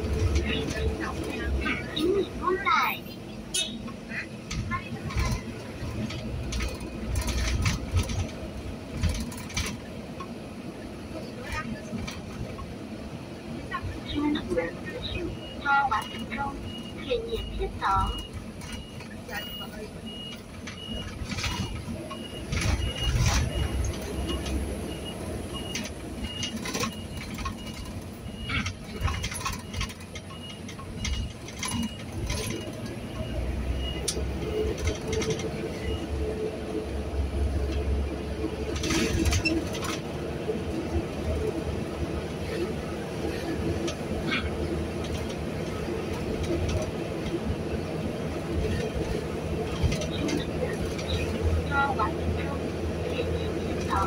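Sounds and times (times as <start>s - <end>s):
clicks and rattles in vehicle: 0.0s - 54.0s
engine and road rumble: 0.0s - 54.0s.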